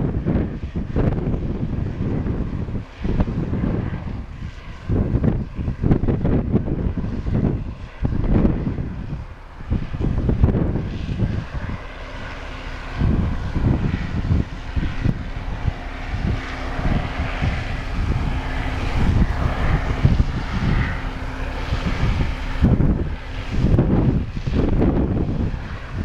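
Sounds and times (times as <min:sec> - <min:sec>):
combine harvester drone: 0:00.0 - 0:26.0
steady hum: 0:00.0 - 0:26.0
wind buffeting microphone: 0:00.0 - 0:26.0.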